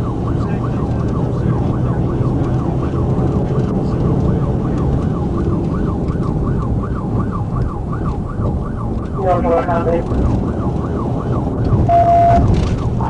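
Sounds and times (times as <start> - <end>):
car engine and road noise: 0.0 - 13.0
police siren yelping: 0.0 - 13.0.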